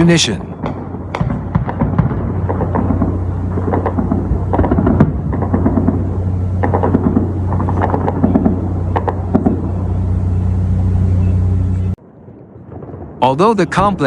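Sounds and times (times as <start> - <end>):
distant autocannon fire: 0.0 - 14.0
low hum: 0.0 - 14.0.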